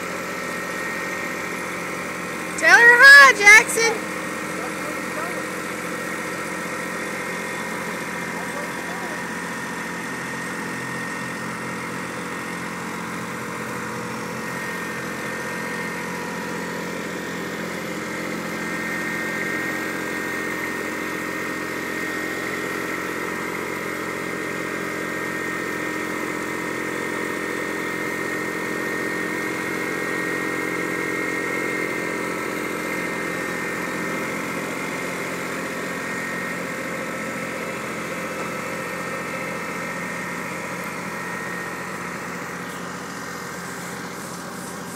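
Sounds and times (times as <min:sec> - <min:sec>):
tractor engine idling: 0:00.0 - 0:44.9.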